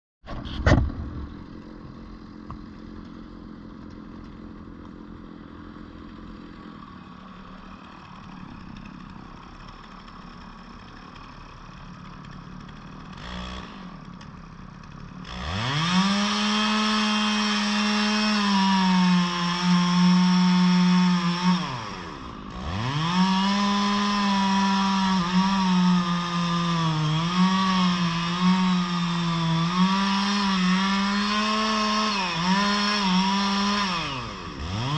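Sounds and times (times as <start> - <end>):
chainsaw cutting wood: 0.3 - 34.9
chainsaw revving: 0.8 - 34.9.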